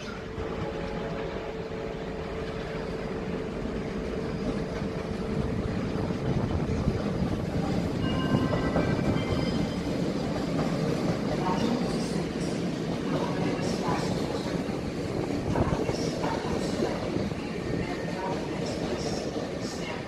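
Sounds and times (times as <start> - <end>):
electric train rumbling past: 0.0 - 20.0
train hum: 0.0 - 20.0.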